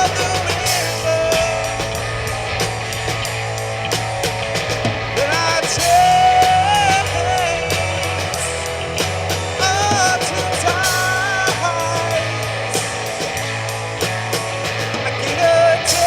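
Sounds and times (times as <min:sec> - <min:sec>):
high lead line bending notes: 0:00.0 - 0:16.0
rock band playing: 0:00.0 - 0:16.0.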